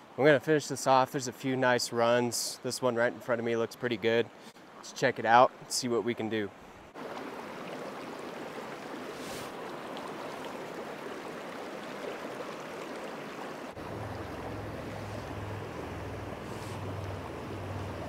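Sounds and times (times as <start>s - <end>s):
creek water rushing over rocks: 2.8s - 18.0s.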